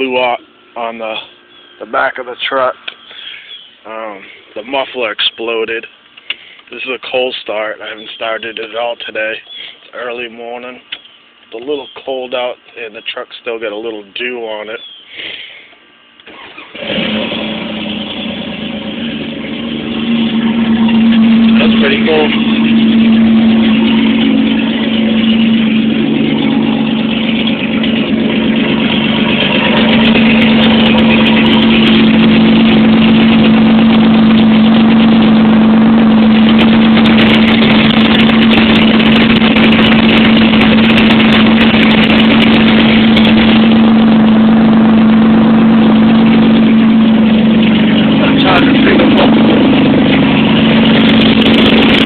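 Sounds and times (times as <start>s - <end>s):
loud car engine idling: 0.0s - 9.9s, 16.2s - 52.0s.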